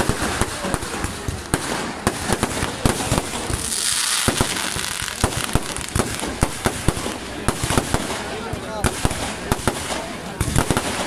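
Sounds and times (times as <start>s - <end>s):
fireworks bangs: 0.0s - 11.0s
hissing crackle of fireworks: 0.0s - 11.0s.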